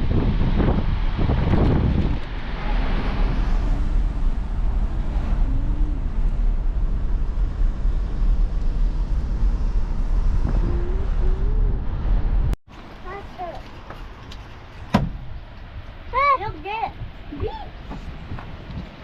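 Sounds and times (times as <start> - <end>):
wind buffeting microphone: 0.0 - 12.6, 15.0 - 19.0.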